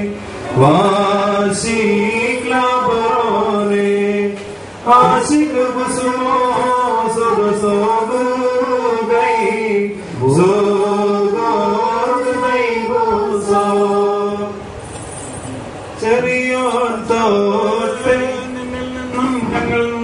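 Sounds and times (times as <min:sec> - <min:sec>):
men chanting a hymn: 0:00.0 - 0:14.6, 0:16.0 - 0:20.0.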